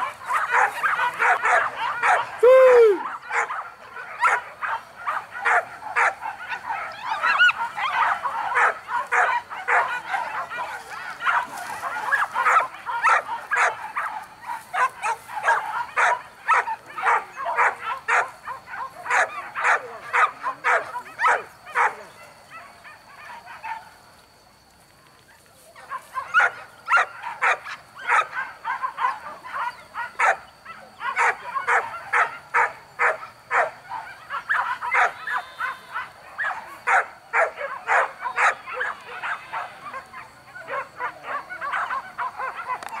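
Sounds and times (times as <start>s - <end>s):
dogs barking: 0.0s - 24.0s, 25.8s - 43.0s.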